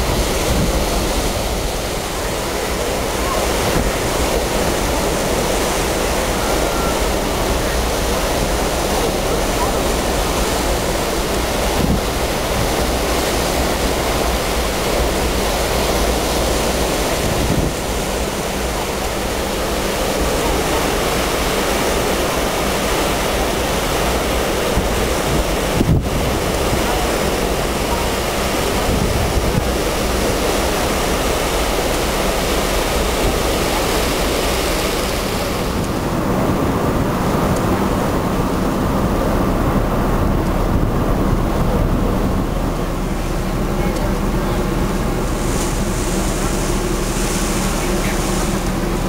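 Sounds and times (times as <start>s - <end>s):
churning boat wake: 0.0s - 49.0s
wind buffeting microphone: 0.0s - 49.0s.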